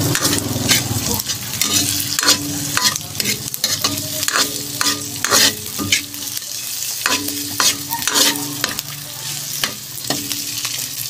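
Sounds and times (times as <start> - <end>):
food sizzling in hot oil: 0.0 - 11.0
metal spatula scraping a wok: 0.0 - 11.0.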